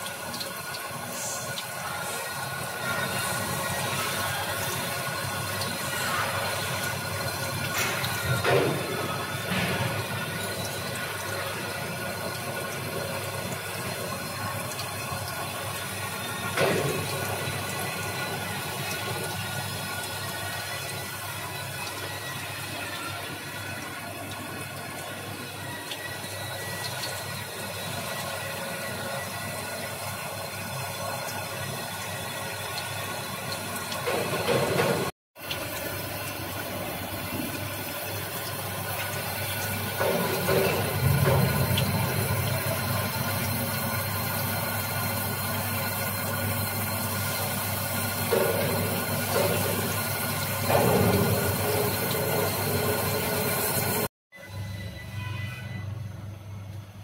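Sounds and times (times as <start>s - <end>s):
water pouring and splashing: 0.0s - 54.1s.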